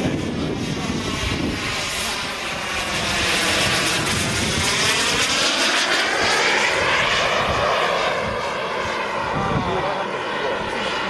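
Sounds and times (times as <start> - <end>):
jet turbine flying overhead: 0.0 - 11.0.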